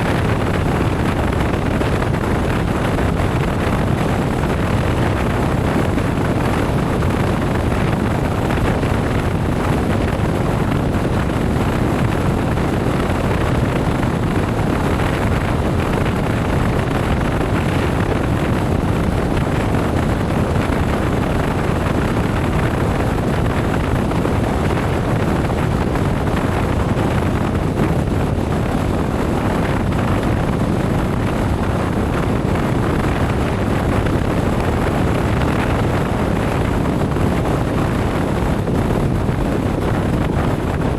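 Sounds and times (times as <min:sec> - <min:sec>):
motorcycle road noise: 0:00.0 - 0:40.9
wind rush: 0:00.0 - 0:40.9.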